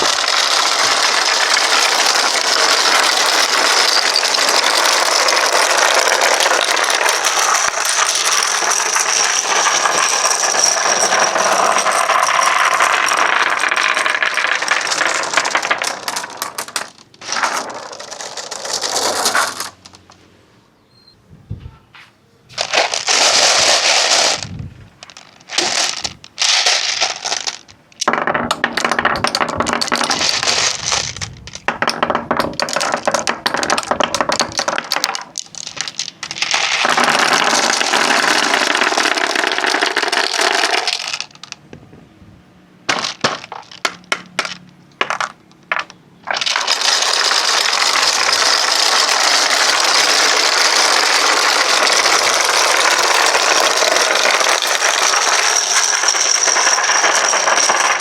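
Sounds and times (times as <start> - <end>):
marbles clicking: 0.0 - 20.2, 22.6 - 41.6, 42.9 - 58.0
marbles rolling on wooden track: 0.0 - 20.2, 22.6 - 41.7, 42.9 - 58.0.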